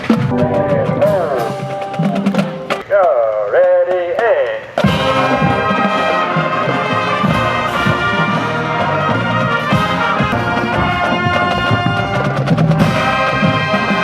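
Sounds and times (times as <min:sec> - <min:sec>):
brass band playing: 0:00.0 - 0:03.1, 0:04.8 - 0:14.0
trumpets and trombones: 0:00.0 - 0:03.7, 0:04.7 - 0:14.0
drum beat: 0:00.0 - 0:04.2, 0:04.8 - 0:14.0.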